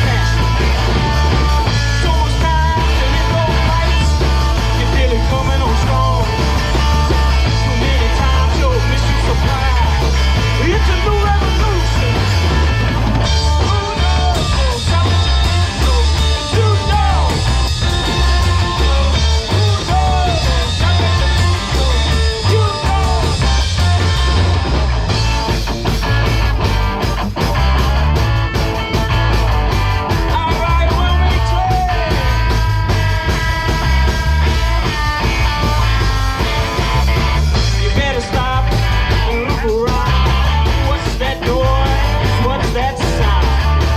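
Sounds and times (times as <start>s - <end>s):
drum hits: 0.0s - 43.9s
live rock band playing: 0.0s - 43.9s
pulsing bass: 0.0s - 43.9s.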